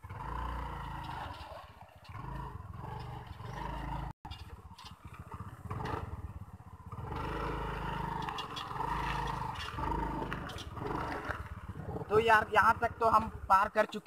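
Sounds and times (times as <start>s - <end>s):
scooter engine under throttle: 0.0s - 13.6s.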